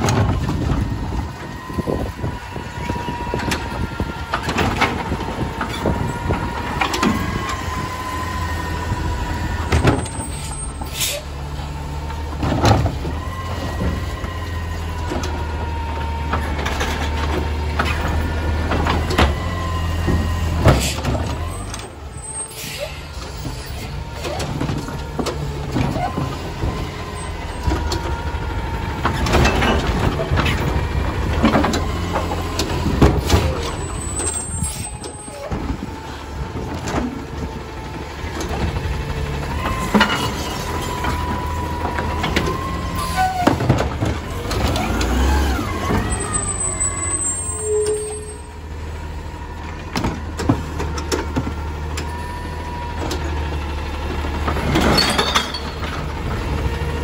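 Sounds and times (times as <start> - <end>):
cart clanking against truck: 0.0 - 57.0
truck engine running: 0.0 - 57.0.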